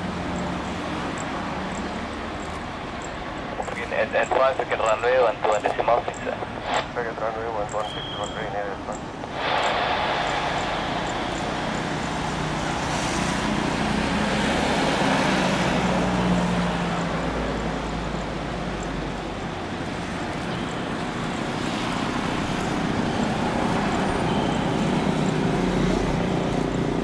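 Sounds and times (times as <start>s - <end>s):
jet engines taxiing: 0.0s - 27.0s.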